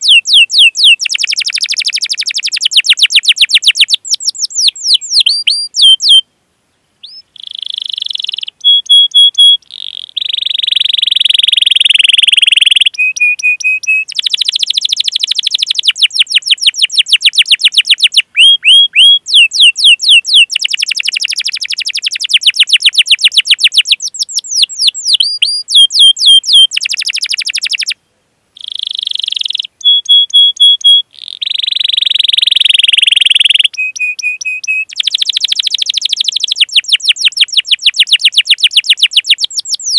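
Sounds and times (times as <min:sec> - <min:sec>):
canary singing: 0:00.0 - 0:06.3, 0:07.0 - 0:28.0, 0:28.6 - 0:39.9.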